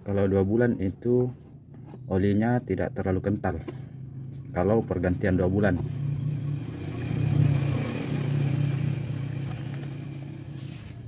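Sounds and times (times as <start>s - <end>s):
vehicle engine running: 0.2s - 11.0s.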